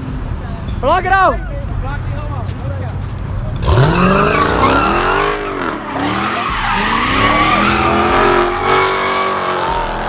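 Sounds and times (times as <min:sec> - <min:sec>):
car engine revving: 0:00.0 - 0:10.0
tyres squealing: 0:00.0 - 0:10.0.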